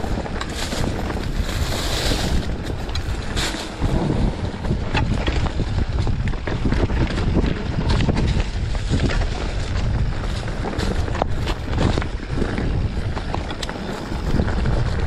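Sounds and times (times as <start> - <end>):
bike rattling over ground: 0.0 - 15.0
wind buffeting microphone: 0.0 - 15.0.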